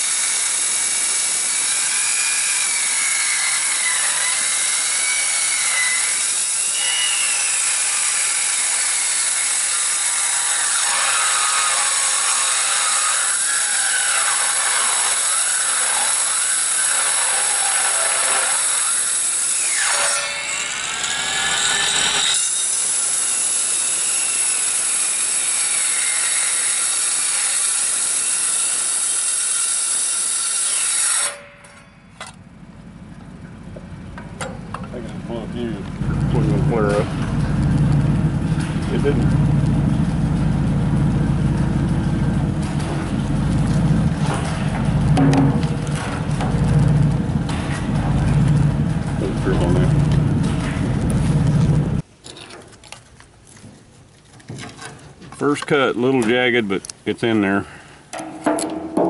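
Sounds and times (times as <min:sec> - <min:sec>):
angle grinder cutting steel: 0:00.0 - 0:31.8, 0:36.0 - 0:52.0.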